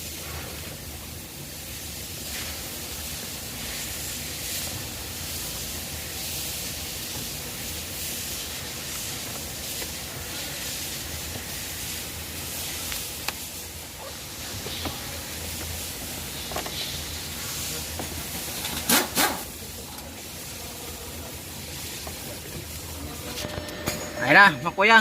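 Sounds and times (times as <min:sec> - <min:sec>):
steady hissing noise: 0:00.0 - 0:25.0.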